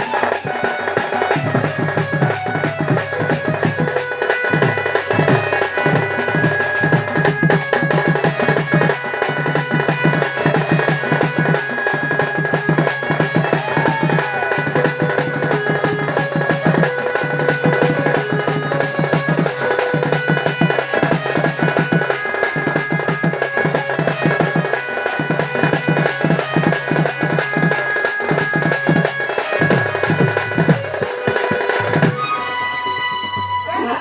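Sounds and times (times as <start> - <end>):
fast steady drumming: 0.0 - 34.0.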